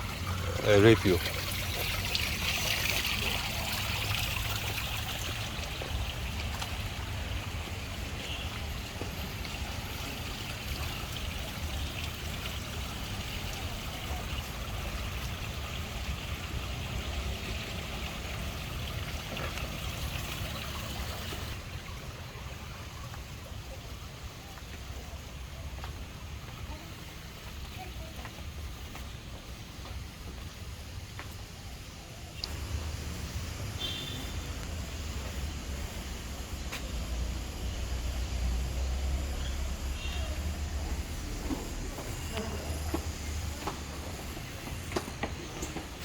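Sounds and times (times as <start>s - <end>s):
stream trickling: 0.0s - 31.5s, 32.3s - 46.0s.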